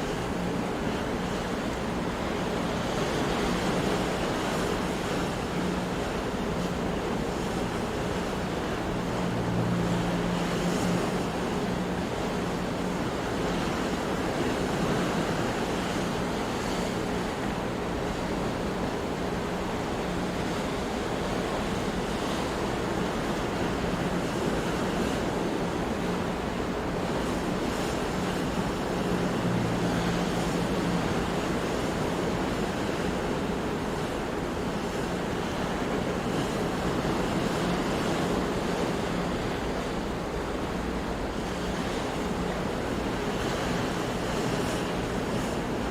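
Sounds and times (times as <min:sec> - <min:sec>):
ocean surf washing: 0:00.0 - 0:45.9.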